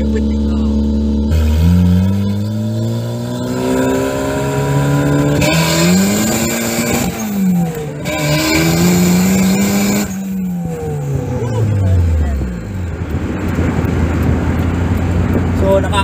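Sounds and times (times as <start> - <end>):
car engine revving through gears: 0.0 - 16.0.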